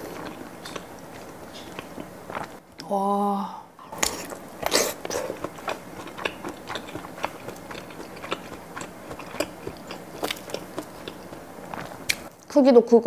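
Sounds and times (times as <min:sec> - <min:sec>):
close chewing with mouth clicks: 0:00.0 - 0:02.6, 0:04.0 - 0:12.3.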